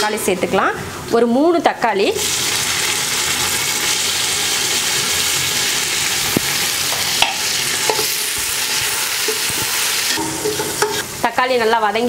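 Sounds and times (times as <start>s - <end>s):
tomatoes and onions sizzling in oil: 1.8s - 12.0s.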